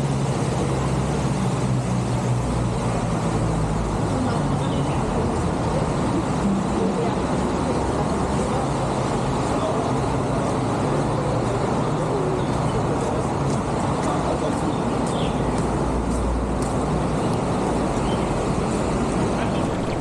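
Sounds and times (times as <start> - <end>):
city road traffic roar: 0.0 - 20.0.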